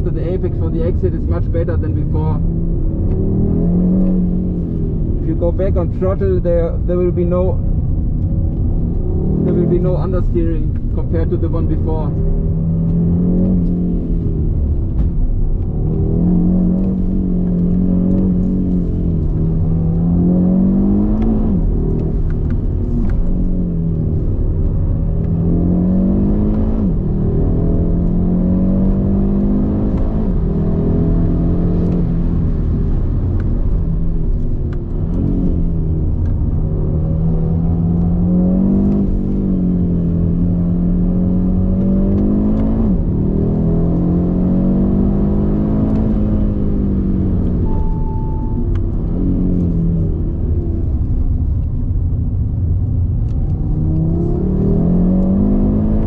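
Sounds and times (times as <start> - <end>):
car engine under hard driving: 0.0 - 56.0.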